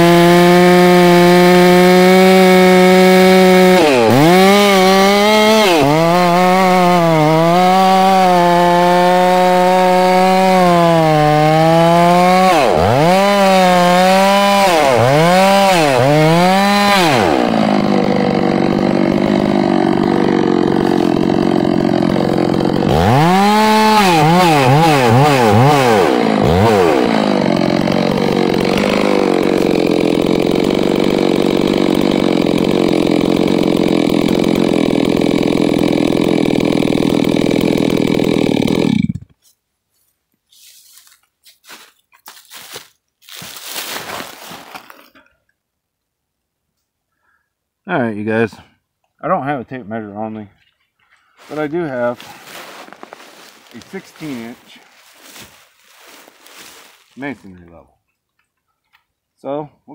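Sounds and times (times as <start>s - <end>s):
chainsaw cutting stump: 0.0s - 39.4s, 40.6s - 45.3s, 51.2s - 57.8s.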